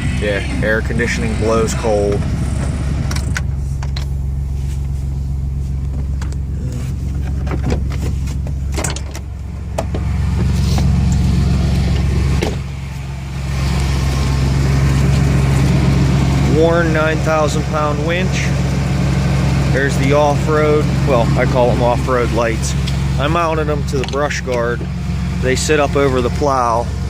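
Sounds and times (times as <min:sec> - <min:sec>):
air-conditioning blower hum: 0:00.0 - 0:27.0
pickup truck idling: 0:00.0 - 0:27.0.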